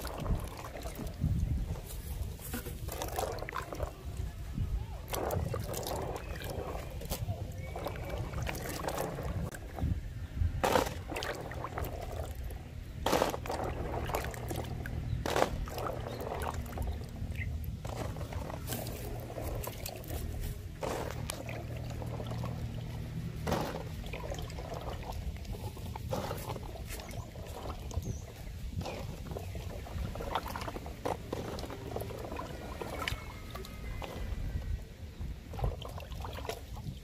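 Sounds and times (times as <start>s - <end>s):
water splashing in a basin: 0.0s - 37.0s
water trickling: 0.0s - 37.0s.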